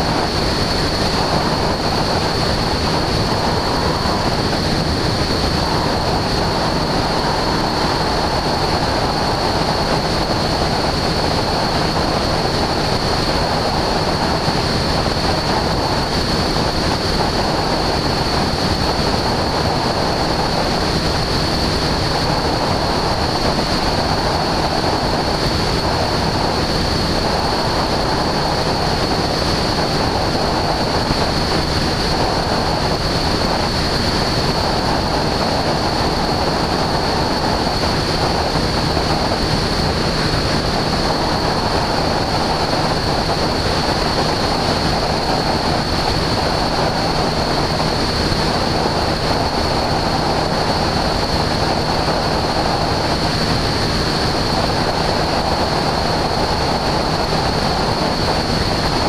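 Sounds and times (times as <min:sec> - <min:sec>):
light aircraft engine and propeller: 0:00.0 - 0:59.0
wind rush on microphone: 0:00.0 - 0:59.0.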